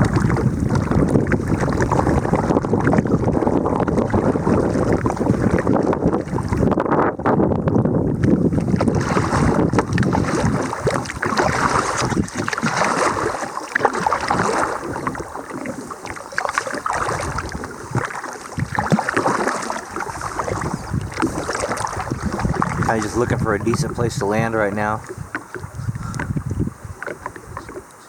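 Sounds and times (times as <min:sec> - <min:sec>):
wind buffeting microphone: 0:00.0 - 0:27.9
paddle strokes splashing: 0:00.0 - 0:28.0
water slapping against hull: 0:00.0 - 0:28.0.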